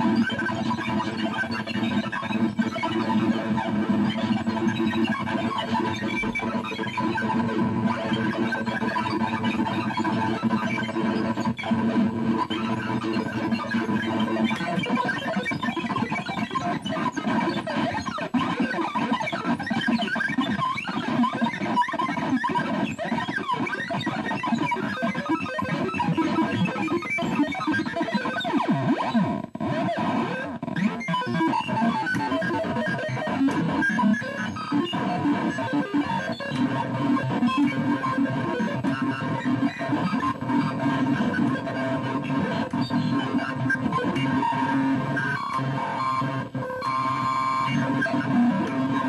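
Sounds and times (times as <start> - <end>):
glitching electronic toy sounds: 0.0 - 49.0.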